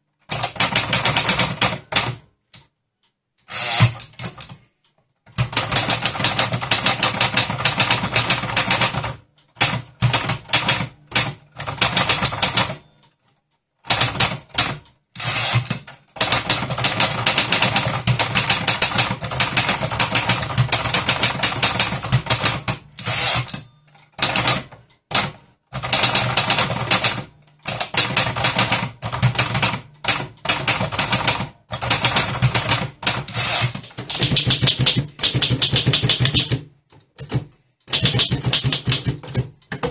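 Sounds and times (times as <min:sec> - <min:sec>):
typewriter keys striking: 0:05.4 - 0:12.8, 0:13.9 - 0:23.6, 0:24.2 - 0:39.9.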